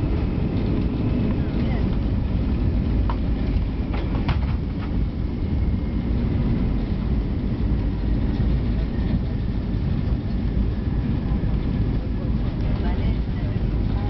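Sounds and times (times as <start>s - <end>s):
airplane cabin engine rumble: 0.0s - 14.0s
wheels running on runway: 0.0s - 14.0s.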